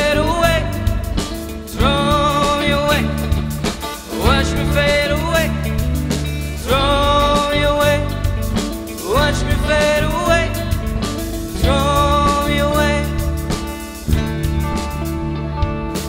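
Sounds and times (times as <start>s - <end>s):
rock band playing: 0.0s - 16.0s
sliding guitar lead notes: 0.0s - 16.0s.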